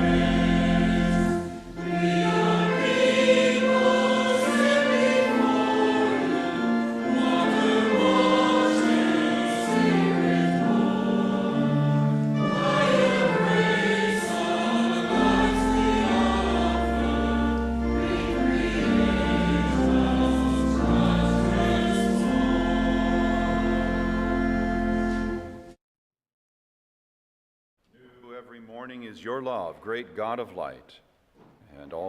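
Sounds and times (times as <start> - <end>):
choir singing a hymn: 0.0 - 25.7
instrumental accompaniment: 0.0 - 25.8.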